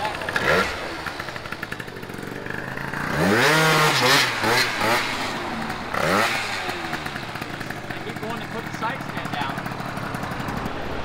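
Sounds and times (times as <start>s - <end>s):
scooter engine idling and revving: 0.0s - 11.0s.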